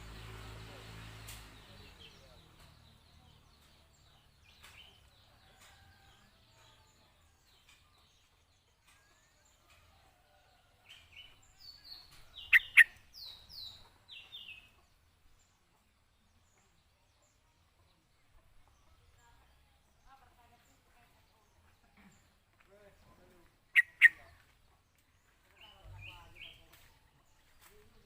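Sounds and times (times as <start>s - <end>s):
bird chirping: 0.0s - 28.0s.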